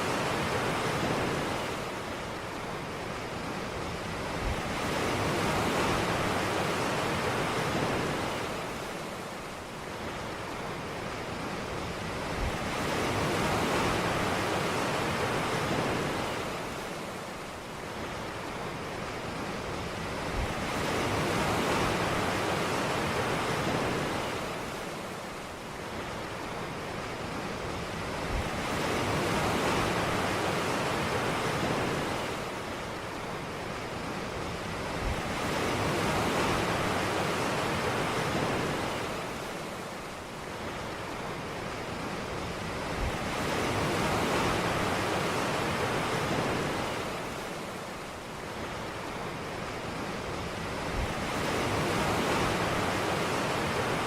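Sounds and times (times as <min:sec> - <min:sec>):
ocean waves on a beach: 0:00.0 - 0:54.0.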